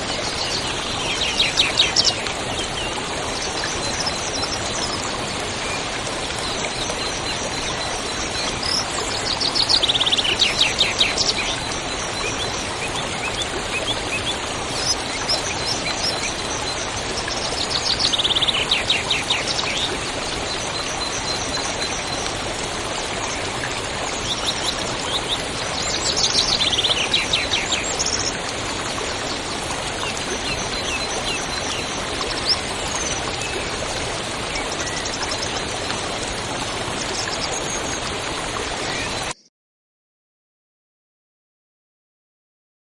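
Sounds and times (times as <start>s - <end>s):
river water rushing: 0.0s - 39.3s.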